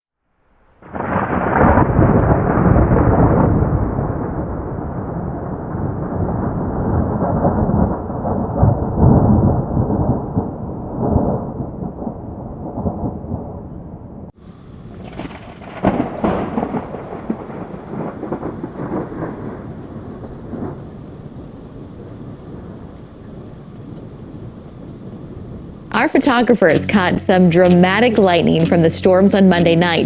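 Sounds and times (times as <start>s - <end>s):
thunder rumbling: 0.4s - 30.0s.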